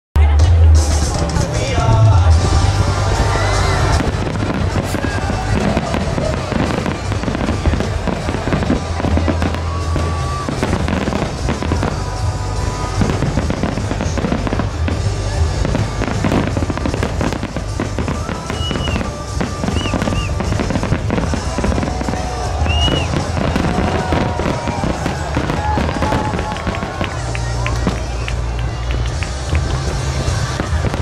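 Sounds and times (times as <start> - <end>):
music playing: 0.2 - 31.0
fireworks banging and crackling: 0.3 - 31.0
firework whistles: 2.8 - 29.1.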